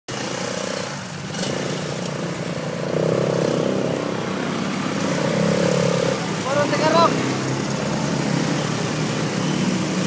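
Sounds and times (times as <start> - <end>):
quad bike engines running: 0.1 - 10.0.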